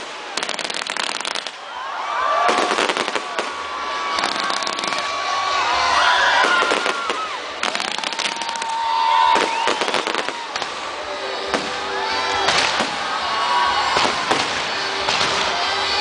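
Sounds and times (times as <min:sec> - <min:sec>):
fireworks bangs: 0:00.0 - 0:01.7, 0:02.4 - 0:16.0
fireworks whistling: 0:00.0 - 0:01.7, 0:02.5 - 0:16.0
fireworks crackling and popping: 0:00.0 - 0:01.8, 0:02.4 - 0:16.0.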